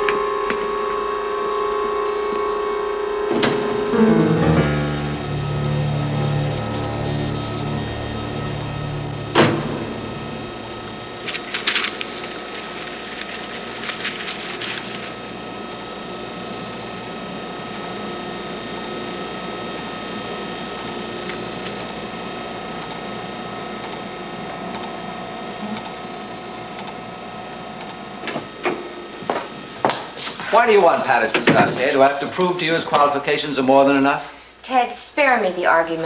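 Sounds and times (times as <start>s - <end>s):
electronic machinery hum: 0.0s - 35.2s.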